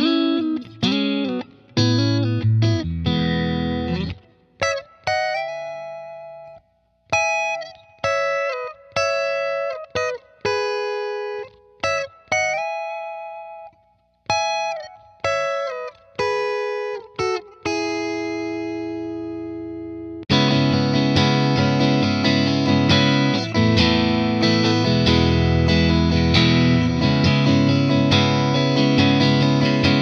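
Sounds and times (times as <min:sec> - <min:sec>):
clean electric guitar lead: 0:00.0 - 0:13.7, 0:14.3 - 0:30.0.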